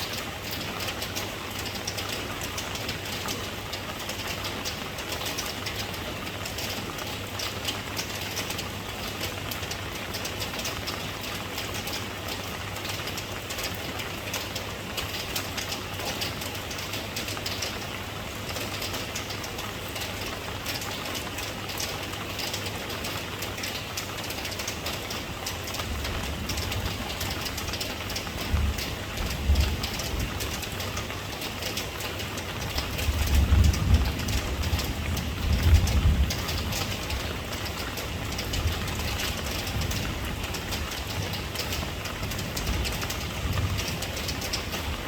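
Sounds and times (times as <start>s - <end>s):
raindrops ticking: 0.0s - 45.0s.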